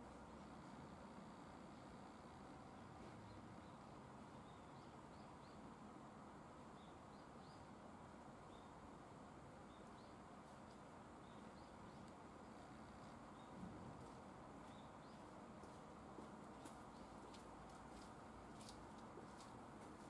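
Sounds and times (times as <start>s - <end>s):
faint background hum: 0.0s - 20.0s.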